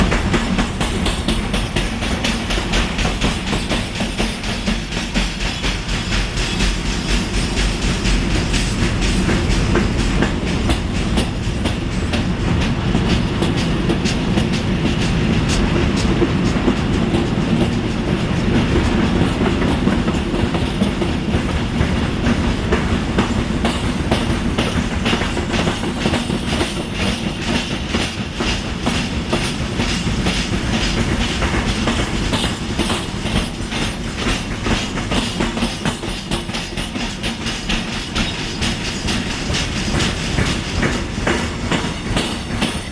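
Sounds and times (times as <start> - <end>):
freight train rumble: 0.0 - 42.9
train wheels knocking on rail: 0.0 - 42.9.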